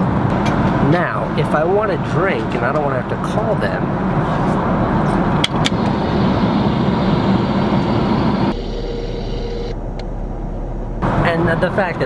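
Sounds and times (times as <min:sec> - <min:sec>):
jet cabin roar: 0:00.0 - 0:12.0.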